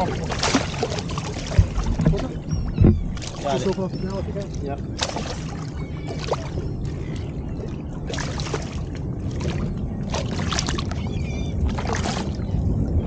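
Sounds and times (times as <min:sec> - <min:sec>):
boat engine rumble: 0:00.0 - 0:13.0
water splashes: 0:00.0 - 0:13.0.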